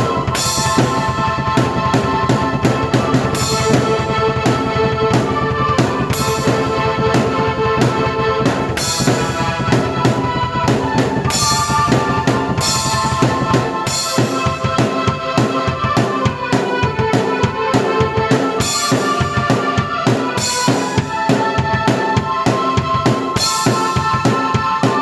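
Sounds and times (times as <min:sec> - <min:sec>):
drum kit beat: 0:00.0 - 0:25.0
keyboard chords: 0:00.0 - 0:25.0.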